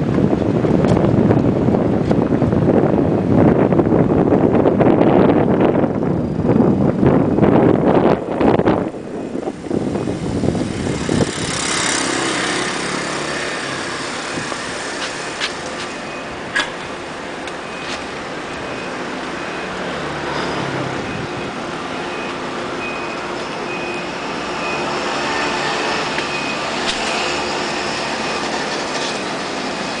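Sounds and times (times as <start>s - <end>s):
vehicles humming and rumbling: 0.0s - 30.0s.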